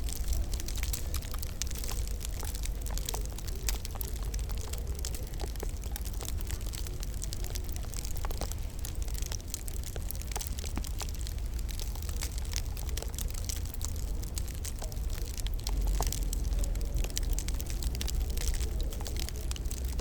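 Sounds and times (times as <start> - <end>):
rumble and hiss of flames: 0.0 - 20.0
wood fire crackling and popping: 0.0 - 20.0.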